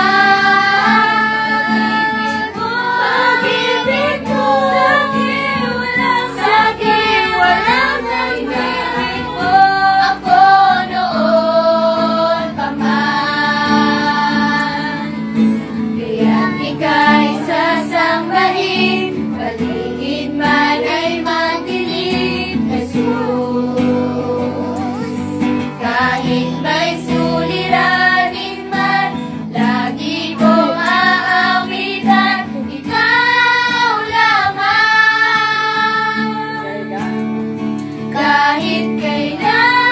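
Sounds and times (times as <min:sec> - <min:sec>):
acoustic guitar: 0:00.0 - 0:39.9
children and women singing: 0:00.0 - 0:39.9.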